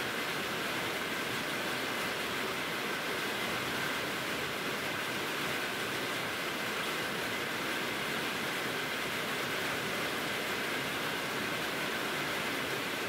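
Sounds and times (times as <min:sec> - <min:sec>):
rain falling on roof: 0:00.0 - 0:13.0.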